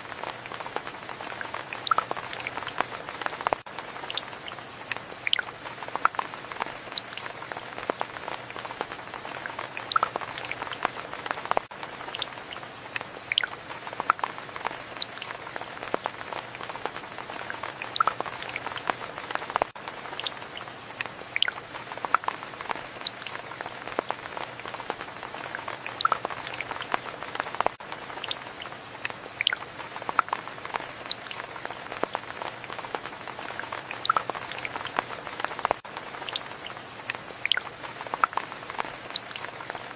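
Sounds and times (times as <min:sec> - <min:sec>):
rain with dripping drops: 0:00.0 - 0:39.9.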